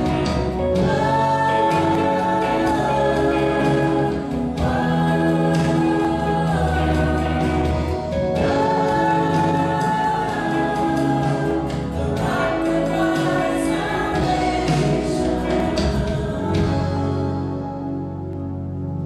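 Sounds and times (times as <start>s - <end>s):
voices singing together: 0.0s - 17.9s
live band playing: 0.0s - 19.0s.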